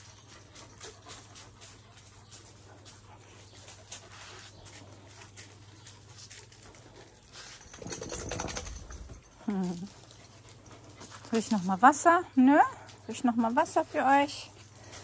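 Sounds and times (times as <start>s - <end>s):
claws ticking and steps: 0.0s - 15.0s.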